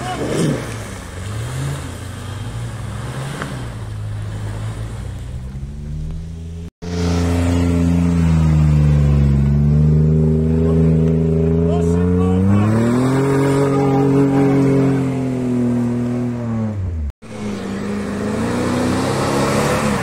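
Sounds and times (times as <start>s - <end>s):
engine running and revving: 0.0s - 20.0s.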